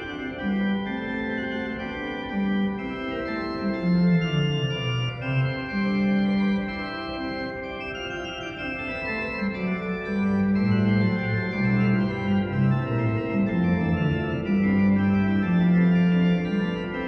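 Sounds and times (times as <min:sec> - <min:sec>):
pipe organ playing chords: 0:00.0 - 0:17.0.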